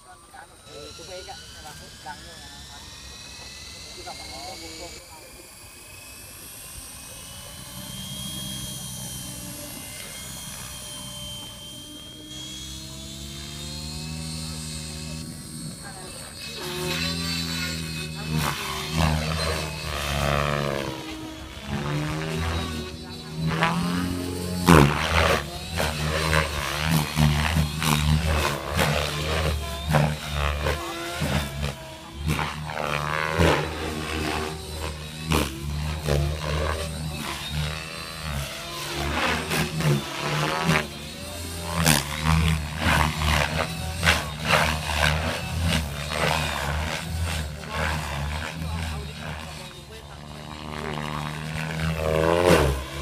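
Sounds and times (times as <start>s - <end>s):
model aircraft motor whining: 0.0s - 53.0s.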